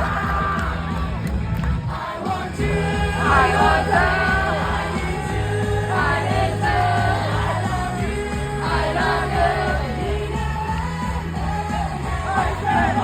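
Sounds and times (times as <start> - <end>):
pop music with singing: 0.0 - 13.0
steady bass notes: 0.0 - 13.0.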